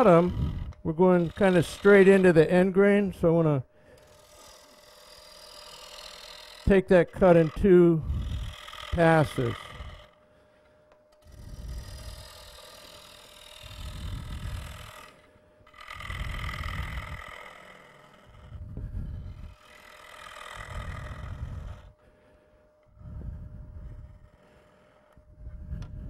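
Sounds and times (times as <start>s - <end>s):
gouge cutting wood on lathe: 0.0s - 10.4s, 11.2s - 23.0s, 23.7s - 25.3s
faint steady hum: 0.0s - 26.0s.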